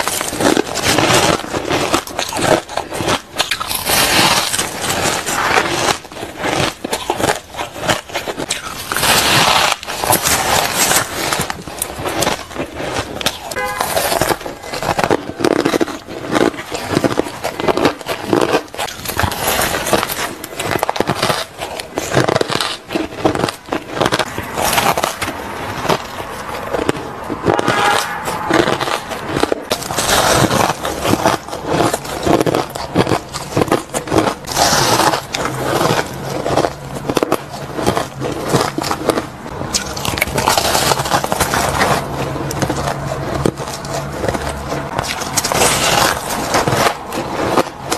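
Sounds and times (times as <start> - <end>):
ice crunching while chewed: 0.0 - 47.9.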